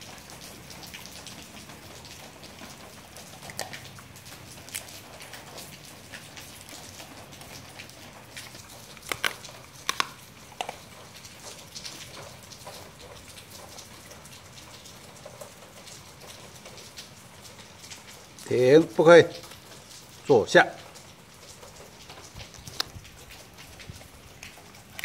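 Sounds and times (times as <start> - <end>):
dog licking food off floor: 0.1 - 25.0.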